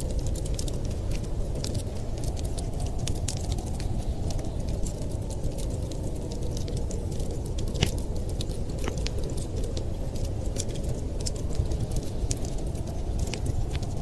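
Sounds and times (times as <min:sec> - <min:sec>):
fire low rumble: 0:00.0 - 0:14.0
wood fire crackling and popping: 0:00.0 - 0:14.0.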